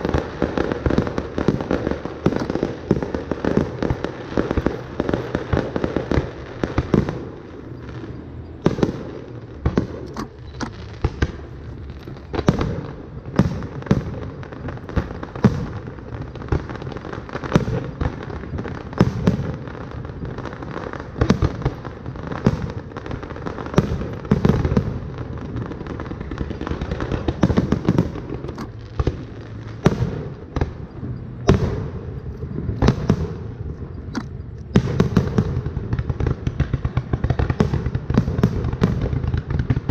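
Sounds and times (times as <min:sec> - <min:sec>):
fireworks bursting: 0:00.0 - 0:39.9
low rumble of reports: 0:00.0 - 0:39.9.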